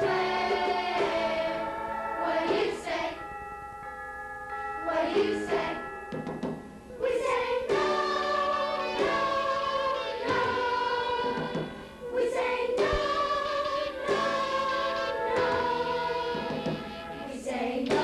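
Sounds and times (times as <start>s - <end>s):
youth choir singing: 0.0s - 3.2s, 4.8s - 5.9s, 6.9s - 18.0s.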